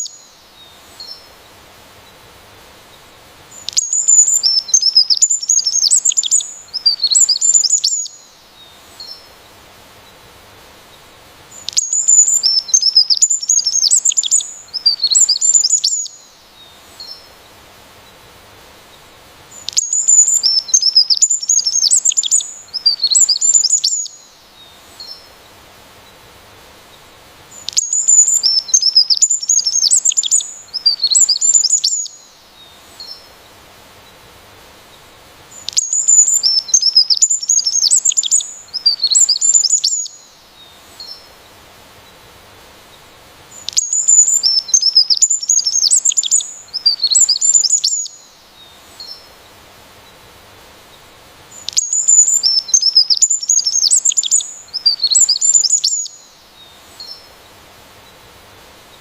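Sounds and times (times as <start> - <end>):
songbird singing chirps and trills: 0.0 - 59.0.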